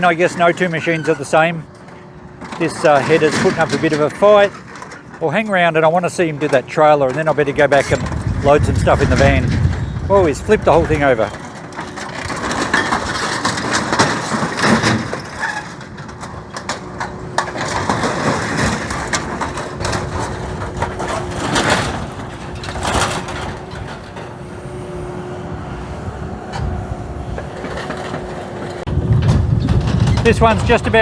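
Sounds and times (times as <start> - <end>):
metal crunching and cracking: 0.0 - 24.8, 26.5 - 31.0
excavator whining: 0.0 - 31.0.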